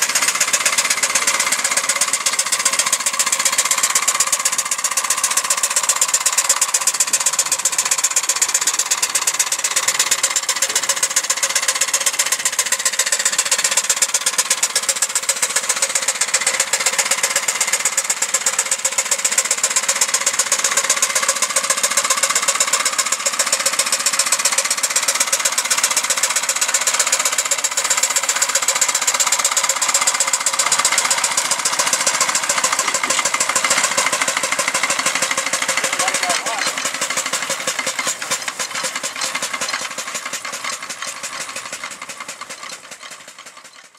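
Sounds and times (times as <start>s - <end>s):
steam engine exhaust beat: 0.0s - 43.7s.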